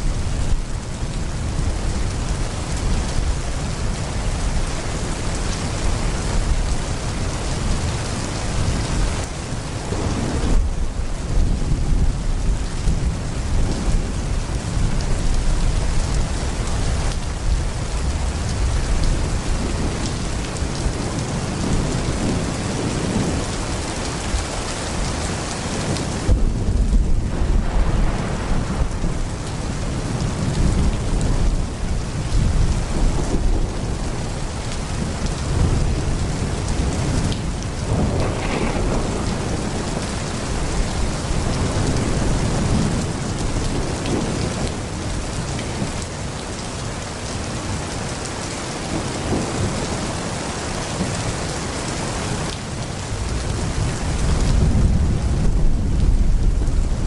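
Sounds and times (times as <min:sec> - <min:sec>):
thunder rumbling: 0:00.0 - 0:51.6, 0:52.3 - 0:57.0
heavy rain pouring: 0:00.0 - 0:57.0.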